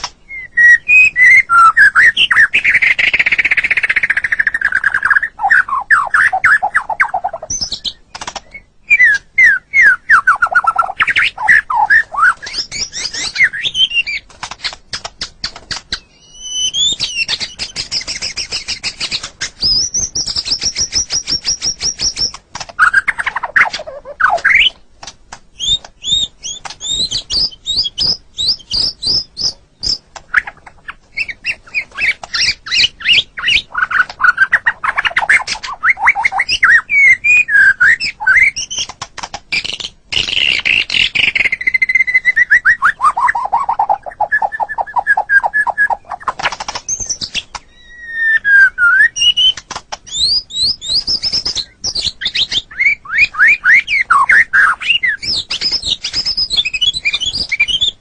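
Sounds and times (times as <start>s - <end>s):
songbird singing loud varied song: 0.0s - 24.8s, 25.5s - 38.9s, 39.5s - 58.0s.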